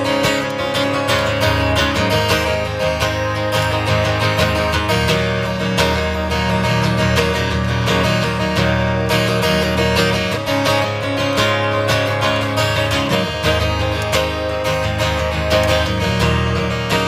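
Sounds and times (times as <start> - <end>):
guitar strummed: 0.0 - 17.0.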